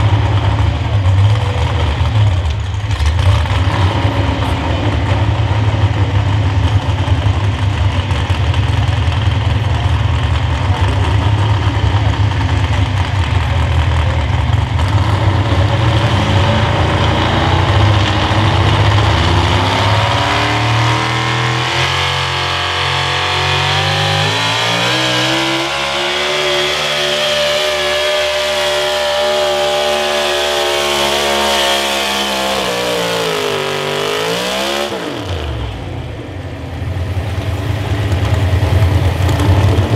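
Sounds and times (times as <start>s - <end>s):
pulling truck engine revving: 0.0s - 39.9s.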